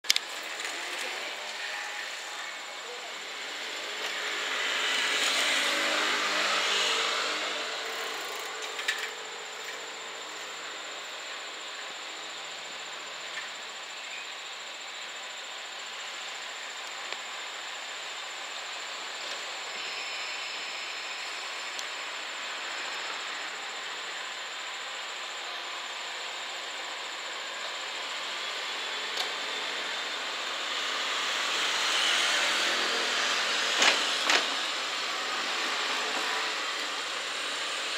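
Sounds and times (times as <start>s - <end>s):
hiss: 0.4s - 37.9s.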